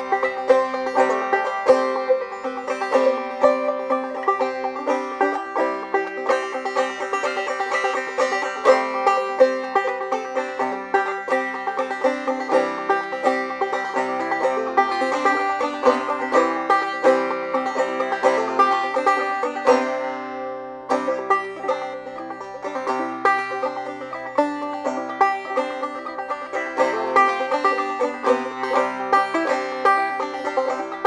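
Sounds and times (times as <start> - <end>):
banjo plucked notes: 0.0 - 31.0.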